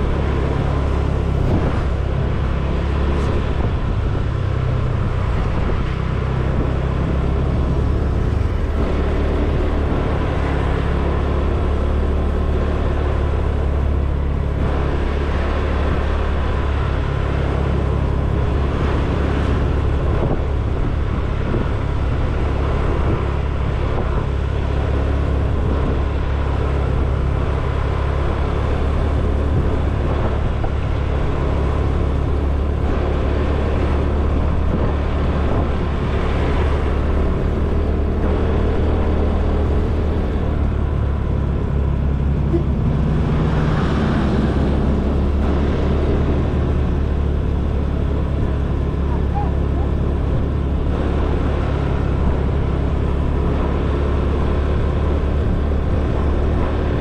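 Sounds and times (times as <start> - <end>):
motor scooter engine rumble: 0.0 - 57.0.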